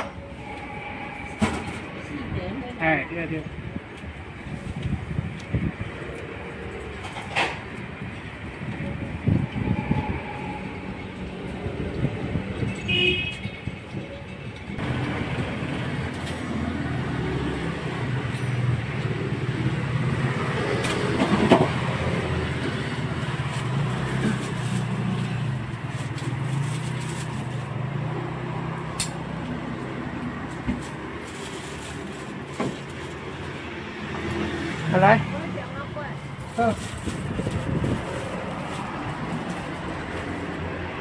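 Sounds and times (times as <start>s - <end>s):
road traffic noise: 0.0s - 41.0s.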